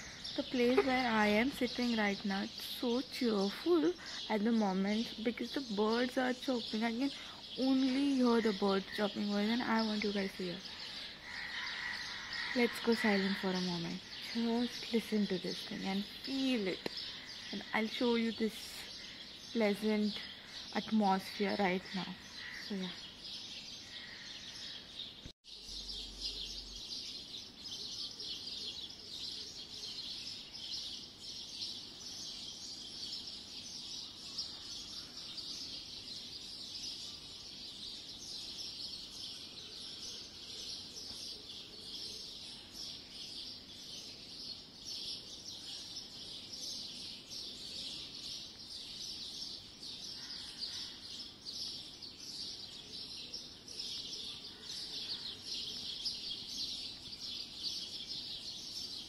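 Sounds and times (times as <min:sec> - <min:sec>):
birds chirping chorus: 0:00.0 - 0:59.0.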